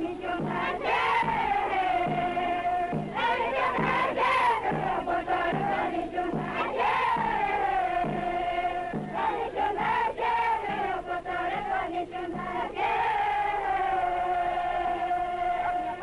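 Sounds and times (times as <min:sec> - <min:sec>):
group of voices singing: 0:00.0 - 0:16.0
steady low beat: 0:00.0 - 0:16.0.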